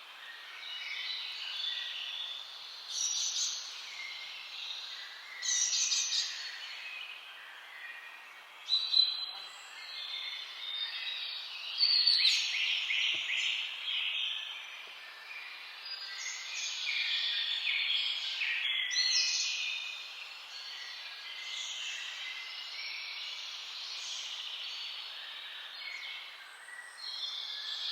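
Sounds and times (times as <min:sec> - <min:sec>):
birds singing: 0:00.0 - 0:27.9
loud bird song phrase: 0:00.0 - 0:27.9.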